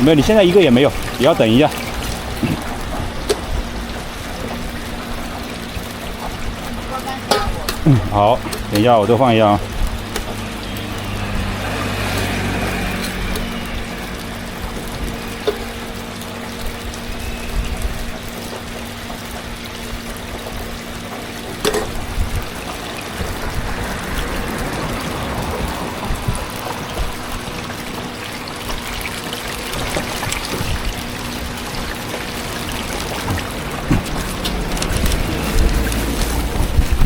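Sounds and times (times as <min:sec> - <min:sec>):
food deep-frying in oil: 0:00.0 - 0:37.0.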